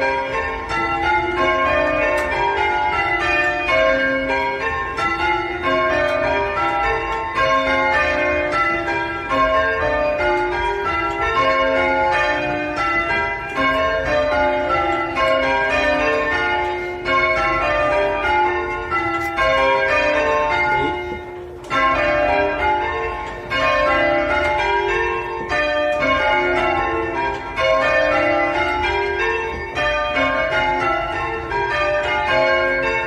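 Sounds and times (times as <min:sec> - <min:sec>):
church bells ringing changes: 0:00.0 - 0:33.0.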